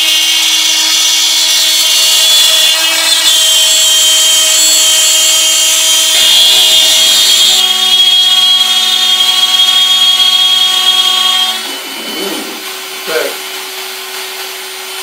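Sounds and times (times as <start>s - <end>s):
router grinding wood: 0.0s - 15.0s
router spindle whining: 0.0s - 15.0s.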